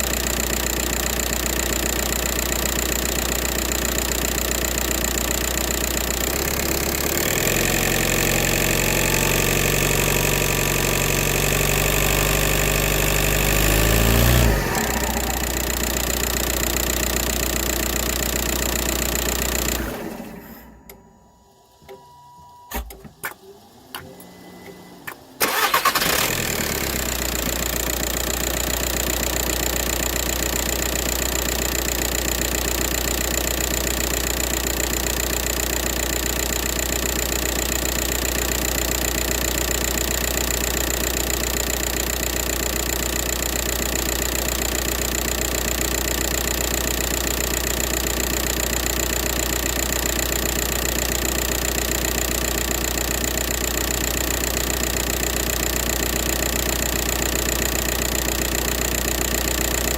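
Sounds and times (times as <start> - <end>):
diesel engine idling: 0.0 - 20.9, 25.2 - 59.9.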